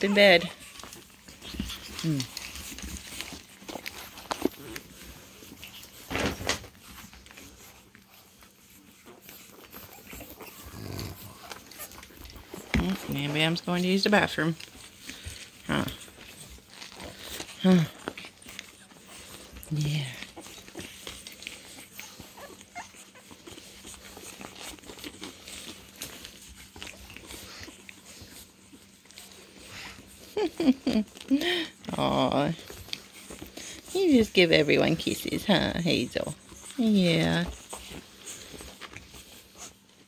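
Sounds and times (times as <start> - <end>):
soft puppy noises: 0.0 - 40.0
light ticks of puppy moving: 0.1 - 6.1, 6.7 - 40.0.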